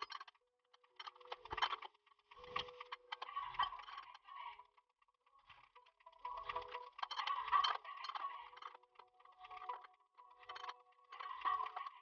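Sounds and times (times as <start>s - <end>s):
tools and metal parts rattling: 0.0s - 12.0s.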